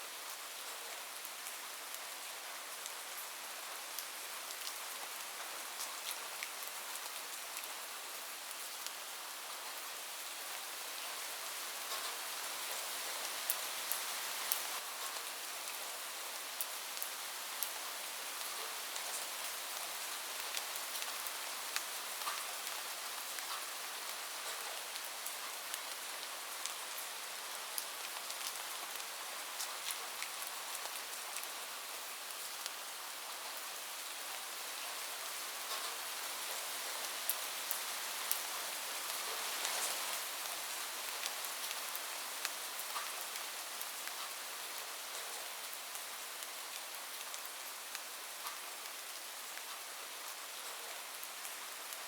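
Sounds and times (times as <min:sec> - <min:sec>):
rain on a roof: 0:00.0 - 0:52.0.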